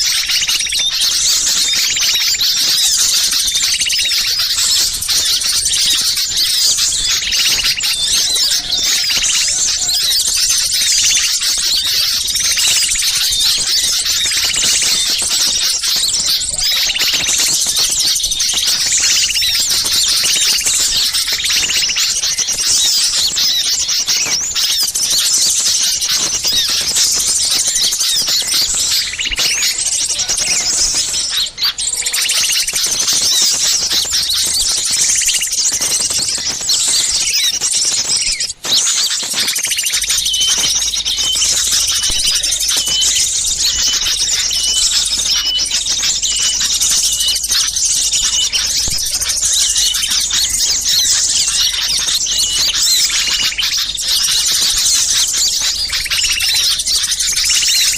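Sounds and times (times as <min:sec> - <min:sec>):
small songbirds chirping: 0:00.0 - 0:57.9.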